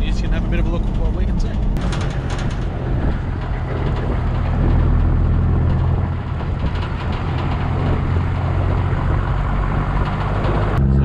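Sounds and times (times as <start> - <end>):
engine drone: 0.0 - 11.0
road and wind noise: 0.0 - 11.0.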